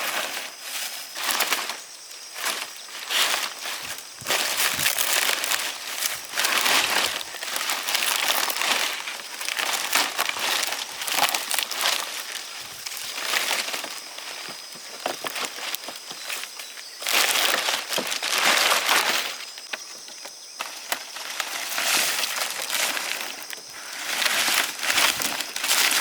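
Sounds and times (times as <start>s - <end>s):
dry rice stalks rustling: 0.0s - 26.0s.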